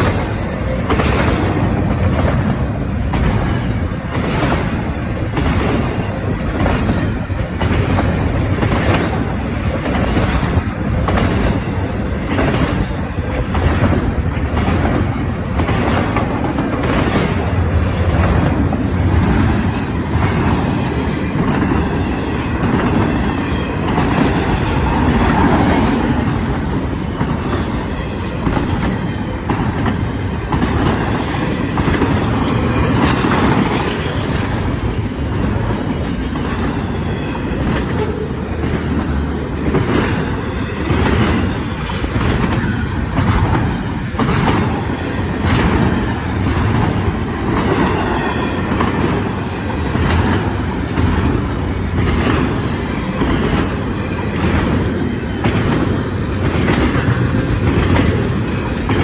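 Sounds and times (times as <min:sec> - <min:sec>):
freight train wheels rumbling: 0:00.0 - 0:59.0
wheels clicking over rail joints: 0:00.0 - 0:59.0.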